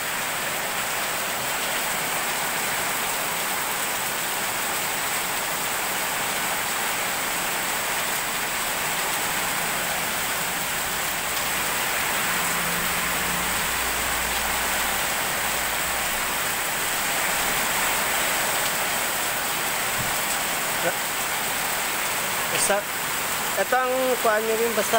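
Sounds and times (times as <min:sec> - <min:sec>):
heavy rain: 0:00.0 - 0:24.9.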